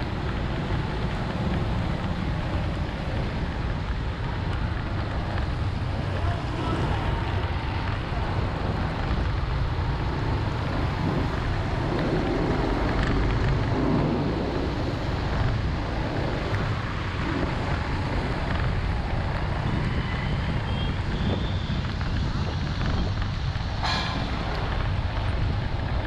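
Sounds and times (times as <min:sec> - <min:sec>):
vehicle and traffic noise: 0:00.0 - 0:26.0
wind buffeting microphone: 0:00.0 - 0:26.0.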